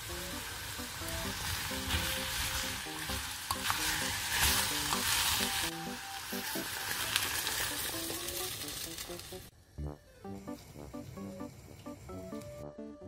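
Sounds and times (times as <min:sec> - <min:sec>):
vegetables sizzling in a pot: 0:00.0 - 0:12.6
quiet background music: 0:00.0 - 0:13.0.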